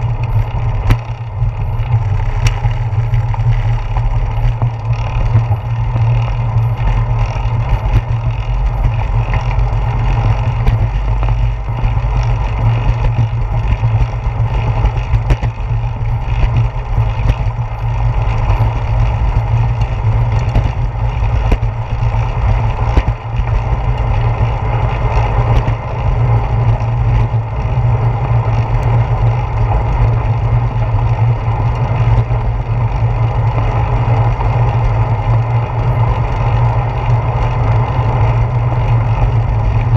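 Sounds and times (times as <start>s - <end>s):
bicycle road rumble: 0.0s - 39.9s.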